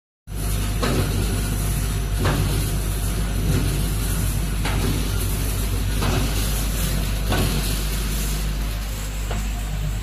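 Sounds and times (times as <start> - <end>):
machine low hum: 0.3 - 10.0.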